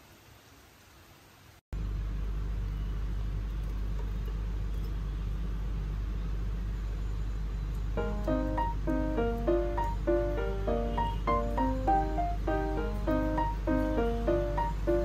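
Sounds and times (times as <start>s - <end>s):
vehicle engine low rumble: 1.8s - 15.0s.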